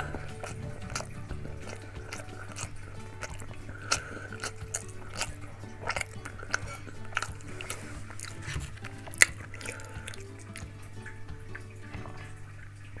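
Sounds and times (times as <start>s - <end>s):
wet mouth clicks and smacks: 0.0s - 11.7s
close chewing: 0.0s - 13.0s
faint background music: 0.0s - 13.0s.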